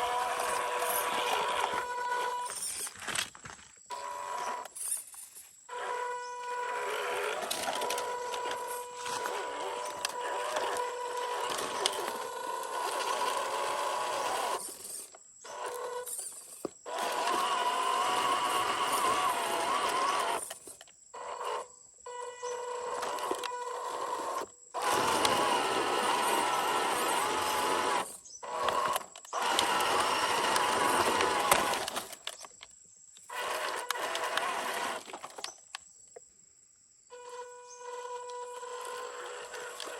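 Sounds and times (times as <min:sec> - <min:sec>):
toy car electric motor whining: 0:00.0 - 0:32.6, 0:33.2 - 0:35.6, 0:37.1 - 0:39.9.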